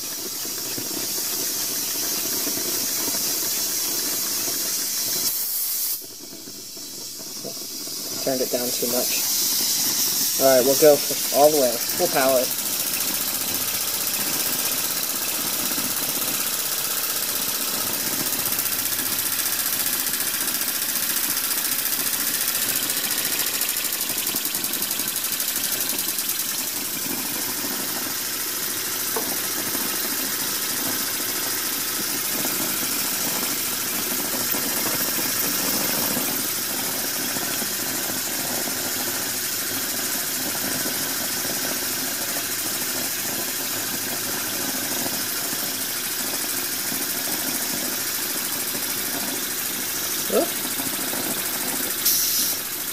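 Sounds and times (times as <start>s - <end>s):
steady hiss of steam: 0.0s - 52.9s
steam engine running fast: 0.0s - 52.9s.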